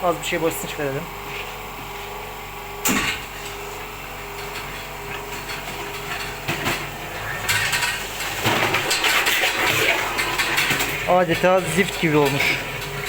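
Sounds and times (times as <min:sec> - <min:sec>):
flushing machine humming: 0:00.0 - 0:13.0.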